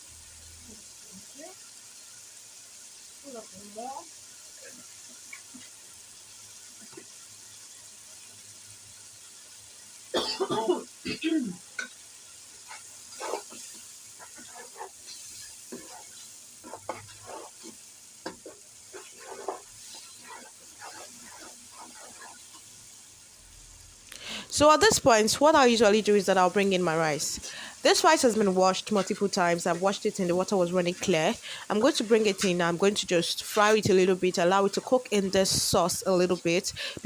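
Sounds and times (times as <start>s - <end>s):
sauce sizzling in a pan: 0.0s - 37.0s.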